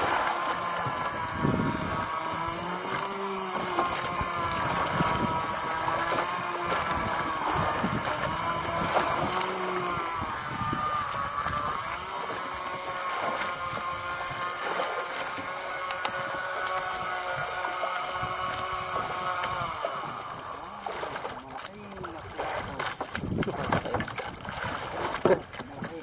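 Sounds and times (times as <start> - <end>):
small boat engine running: 0.0 - 26.0
water noise: 0.0 - 26.0
wind: 0.0 - 26.0.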